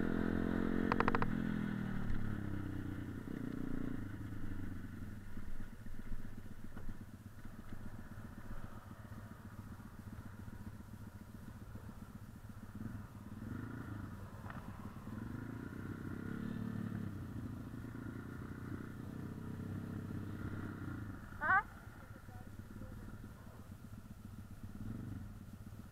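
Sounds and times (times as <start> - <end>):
motorcycle engines idling: 0.0 - 25.9.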